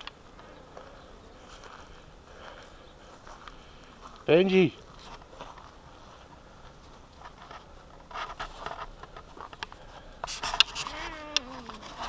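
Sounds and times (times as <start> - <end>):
cats scuffling on gravel: 0.4 - 12.0.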